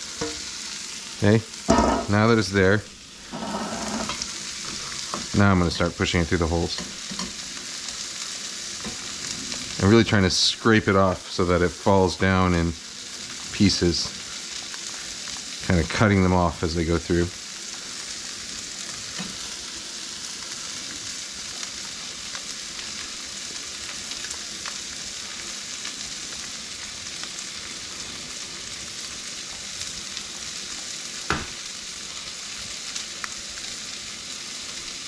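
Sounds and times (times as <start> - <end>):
vegetables sizzling in skillet: 0.0 - 35.0.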